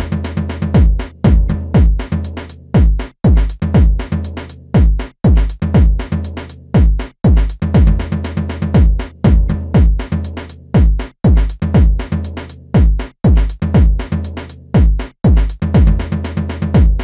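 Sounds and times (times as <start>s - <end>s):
electronic music with drum machine: 0.0s - 17.0s.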